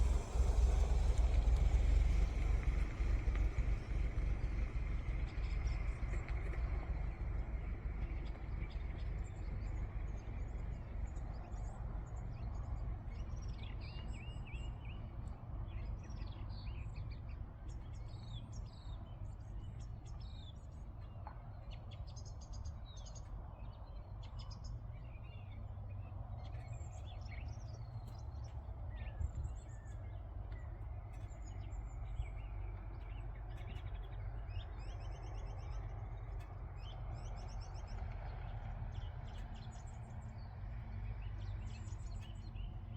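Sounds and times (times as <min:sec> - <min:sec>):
small birds chirping: 0:00.0 - 0:42.9
steady low rumble: 0:00.0 - 0:42.9.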